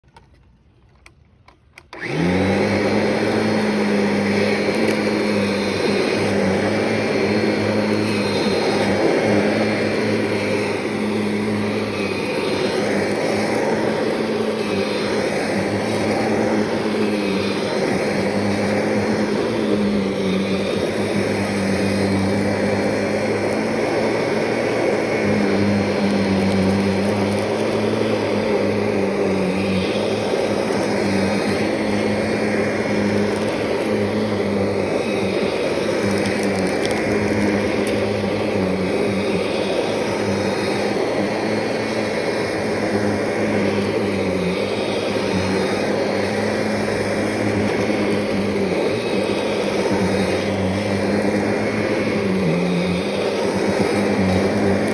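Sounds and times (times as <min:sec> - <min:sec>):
vacuum cleaner motor running: 0:00.0 - 0:54.9.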